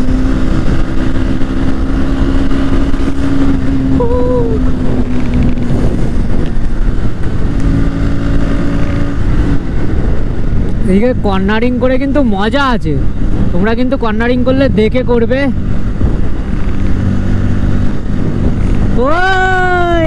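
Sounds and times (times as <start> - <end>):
motorcycle engine cruising: 0.0 - 20.0
wind rumble on microphone: 0.0 - 20.0.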